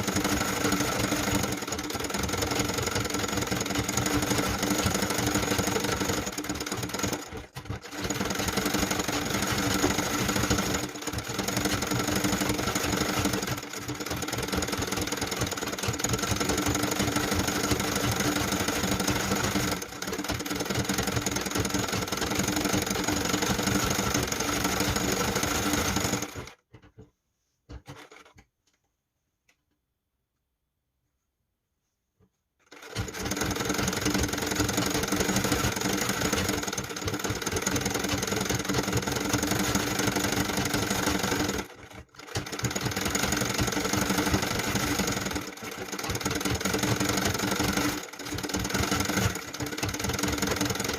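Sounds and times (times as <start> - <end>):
sewing machine stitching: 0.0 - 27.1, 27.7 - 28.5, 32.6 - 50.9.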